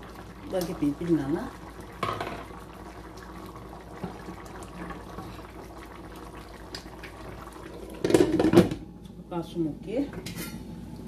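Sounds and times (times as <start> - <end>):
pot simmering with low bubbling: 0.0 - 11.0.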